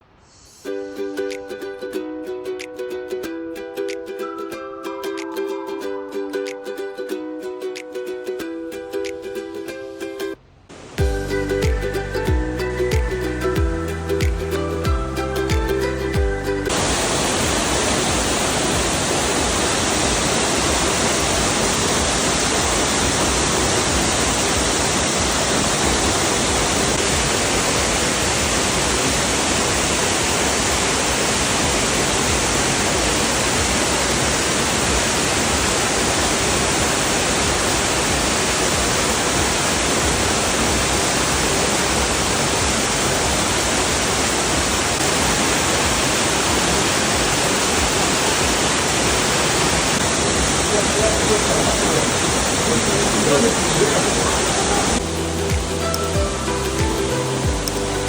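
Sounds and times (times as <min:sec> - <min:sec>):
waterfall roaring: 0:10.7 - 0:58.0.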